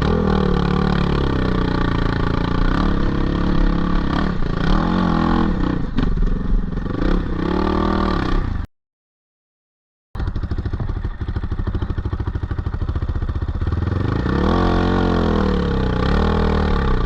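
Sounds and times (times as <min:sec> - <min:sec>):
dirt bike engine revving: 0:00.0 - 0:08.7, 0:10.2 - 0:17.0.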